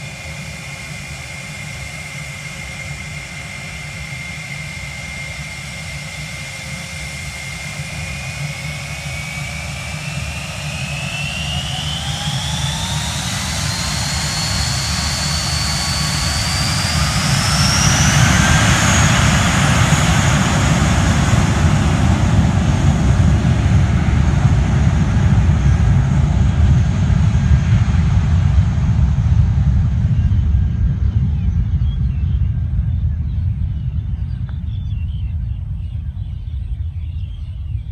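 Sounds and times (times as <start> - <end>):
airliner engines spooling up: 0.0 - 37.9.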